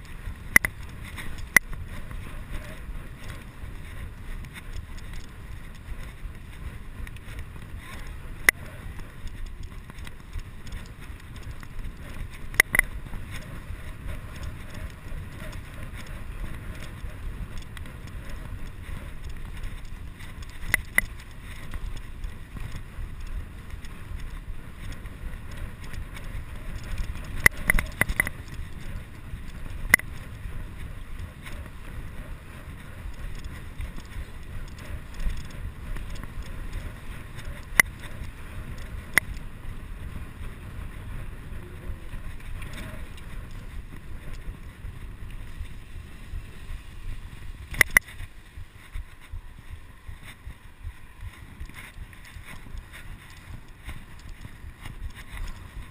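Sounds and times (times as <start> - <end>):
bicycle tyres on brick paving: 0.0 - 55.9
bike clicks and rattles: 0.0 - 55.9
wind buffeting microphone: 0.0 - 55.9.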